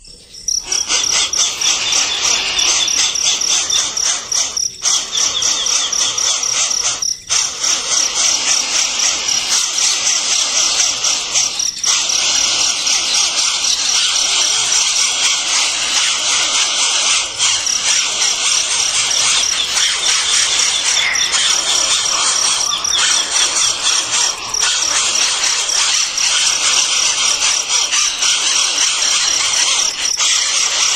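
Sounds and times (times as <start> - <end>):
nestling birds chirping: 0.0 - 30.9.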